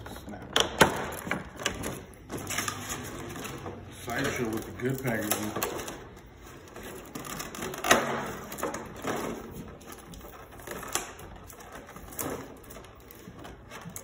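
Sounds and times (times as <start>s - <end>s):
plastic packaging crackling: 2.4s - 14.0s.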